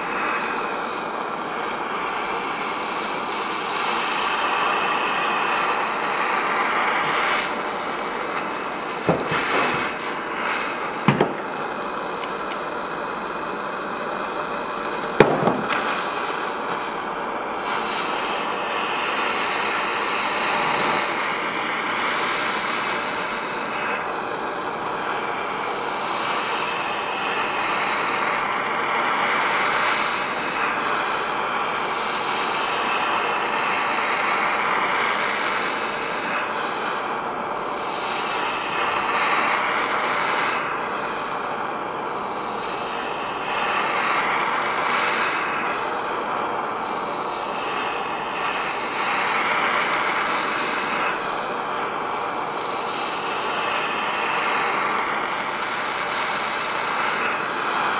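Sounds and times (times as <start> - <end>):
butane torch hissing: 0.0 - 57.9.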